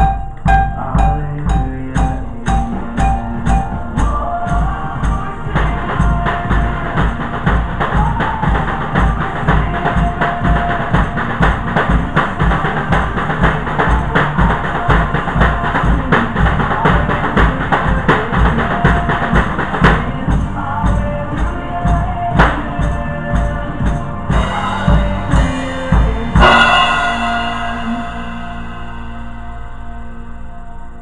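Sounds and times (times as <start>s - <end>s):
upbeat music with drum kit: 0.0s - 29.8s.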